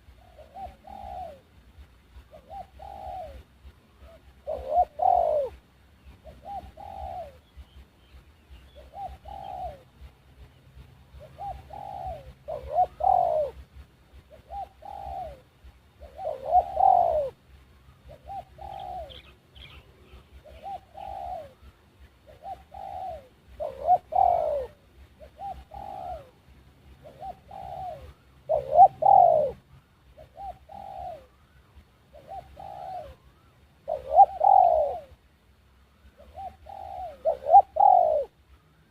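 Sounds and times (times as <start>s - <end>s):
dove cooing: 0.0s - 35.2s, 36.0s - 38.9s.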